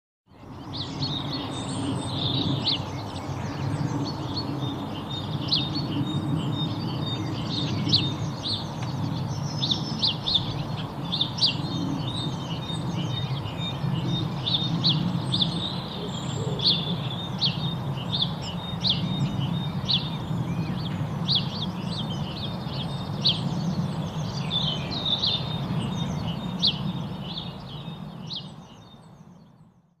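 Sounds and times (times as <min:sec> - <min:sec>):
small birds chirping: 0:00.3 - 0:30.0
steady low rumble: 0:00.6 - 0:28.5.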